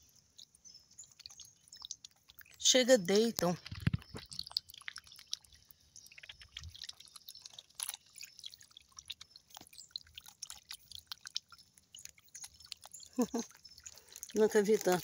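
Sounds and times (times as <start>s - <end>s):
small fish splashing in water: 0.0s - 15.0s.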